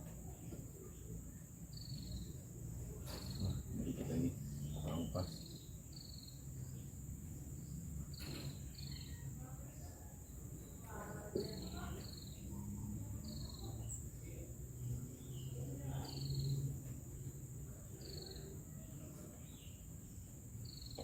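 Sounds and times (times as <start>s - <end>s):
faint low hum: 0.0s - 21.0s
bird chirping: 0.2s - 21.0s
high insect drone: 1.0s - 9.7s, 10.5s - 21.0s.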